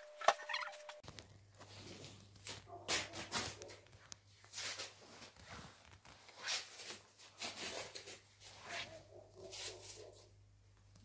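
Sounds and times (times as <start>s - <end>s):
clothing rustle: 0.1s - 10.1s.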